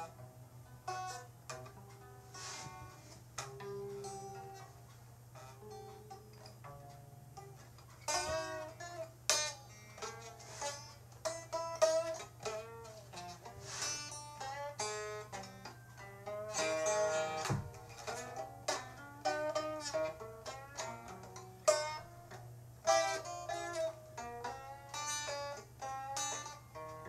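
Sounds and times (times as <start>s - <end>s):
plucked string instrument: 0.0s - 27.0s
steady low hum: 0.0s - 27.0s.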